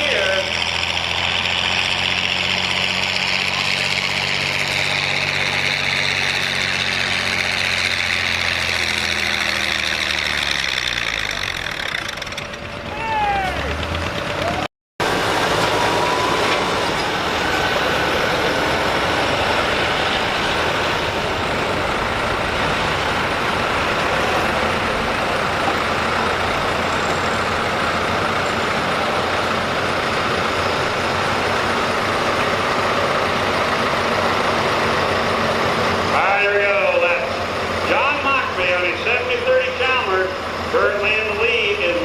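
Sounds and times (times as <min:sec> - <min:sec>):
engine running hard: 0:00.0 - 0:42.0.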